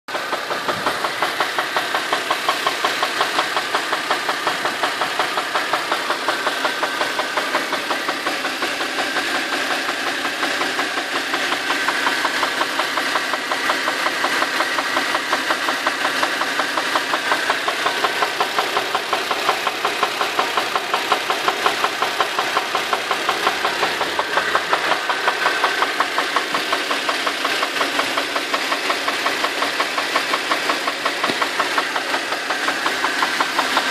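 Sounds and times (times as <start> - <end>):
car engine idling with knock: 0.1 - 33.9.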